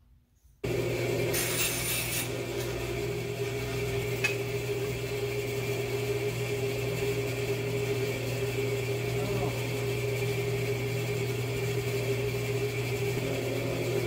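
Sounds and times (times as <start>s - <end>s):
bandsaw motor humming: 0.6s - 14.0s.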